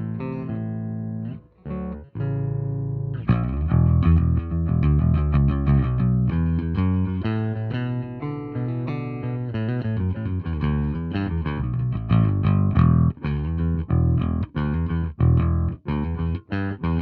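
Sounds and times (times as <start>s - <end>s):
picked electric bass notes: 0.0s - 17.0s.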